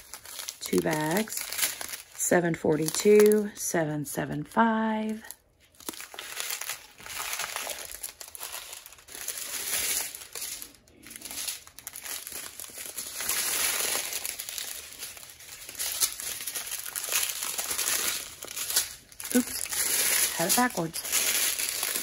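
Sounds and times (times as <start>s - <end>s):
plastic bags crinkling: 0.0s - 3.5s, 5.2s - 22.0s.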